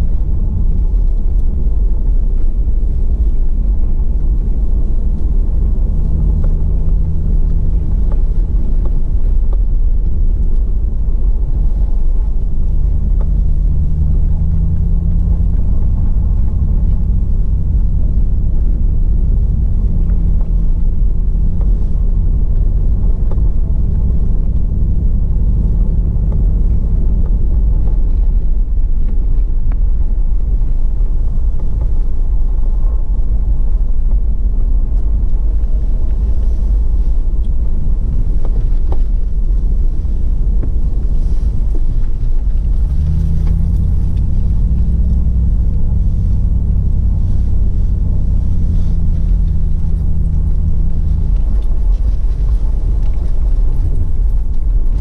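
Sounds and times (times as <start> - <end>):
truck engine rumbling: 0.0 - 55.0.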